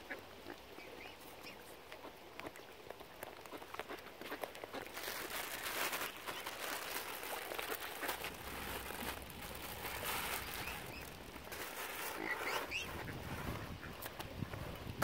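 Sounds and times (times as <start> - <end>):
cygnets pecking wet ground: 0.0 - 15.0.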